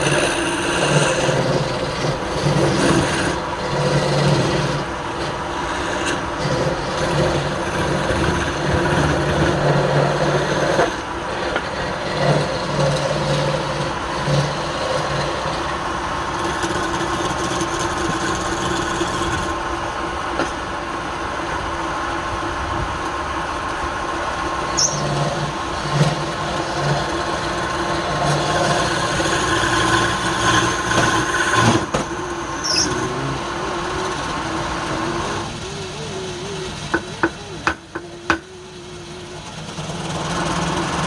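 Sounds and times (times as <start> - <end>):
woodturning lathe motor hum: 0.0 - 41.0.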